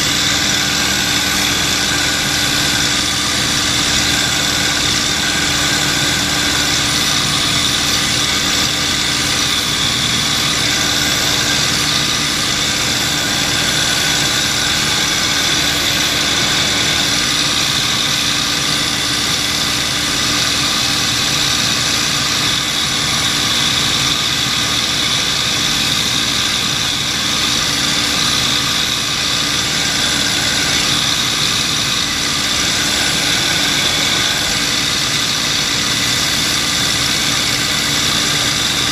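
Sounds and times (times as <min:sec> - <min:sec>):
piston aircraft engine droning: 0:00.0 - 0:38.9.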